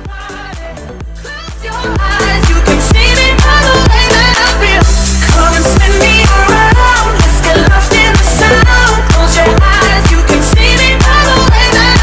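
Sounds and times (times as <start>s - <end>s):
dance-pop music with thumping beat: 0.0s - 12.0s.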